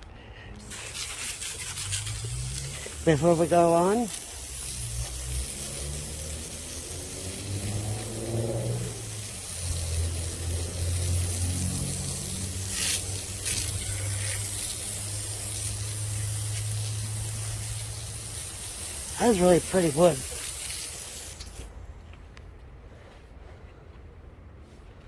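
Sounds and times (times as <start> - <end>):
low engine hum: 0.2 - 22.3
water spray hissing: 0.6 - 21.7.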